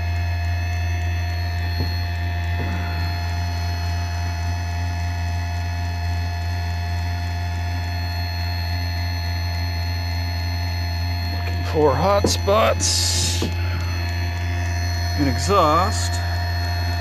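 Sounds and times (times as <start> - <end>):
faint steady high tones: 0.0 - 17.0
furnace low hum: 0.0 - 17.0.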